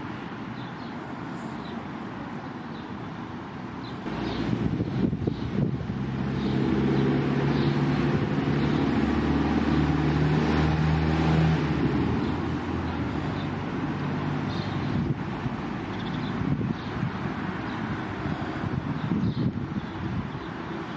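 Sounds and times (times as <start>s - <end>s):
outdoor background noise: 0.0s - 20.9s
engine humming: 2.4s - 20.9s.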